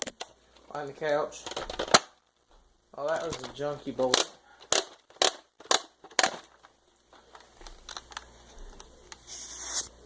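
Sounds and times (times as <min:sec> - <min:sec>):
handling noise: 0:00.9 - 0:09.2.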